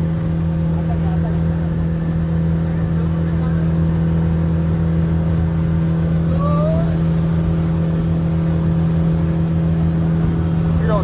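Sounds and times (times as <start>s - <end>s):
speedboat engine running: 0.0s - 11.0s.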